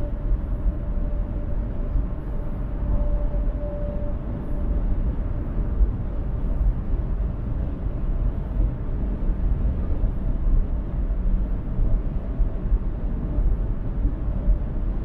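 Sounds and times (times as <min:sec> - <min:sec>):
car road noise at highway speed: 0:00.0 - 0:15.0.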